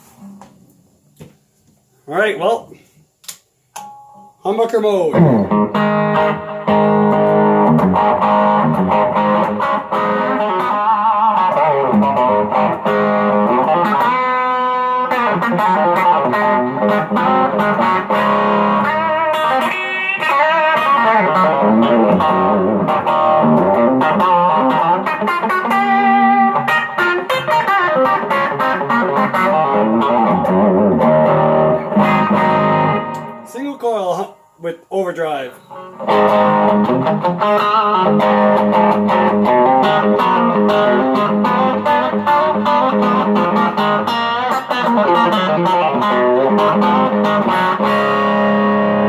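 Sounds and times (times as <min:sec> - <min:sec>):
electric guitar playing: 0:05.1 - 0:34.6, 0:35.7 - 0:49.0.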